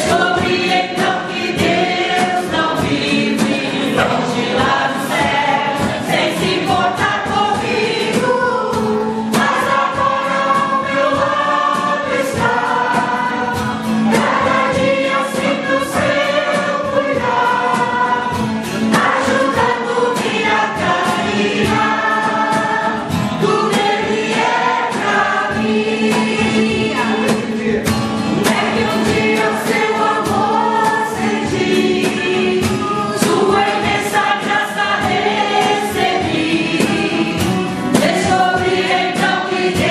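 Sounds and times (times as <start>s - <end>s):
choir singing a hymn: 0.0s - 39.9s
strummed acoustic guitar: 0.0s - 39.9s.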